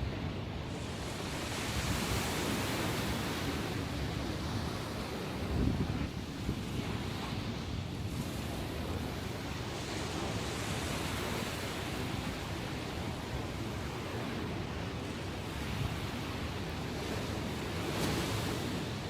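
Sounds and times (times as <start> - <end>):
ocean waves breaking: 0.0 - 19.0
wind on microphone: 0.0 - 19.0.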